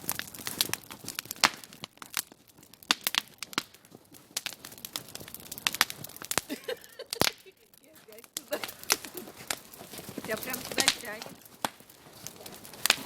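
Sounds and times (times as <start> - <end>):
sharp crackles and crunches: 0.0 - 13.0.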